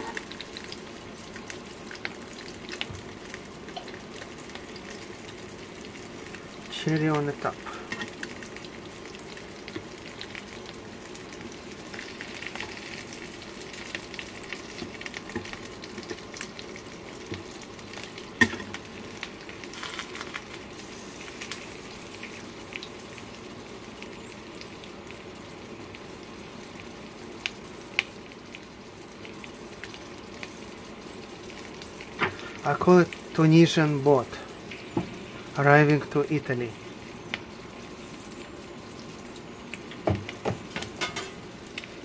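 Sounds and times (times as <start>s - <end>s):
food sizzling in a skillet: 0.0s - 42.0s.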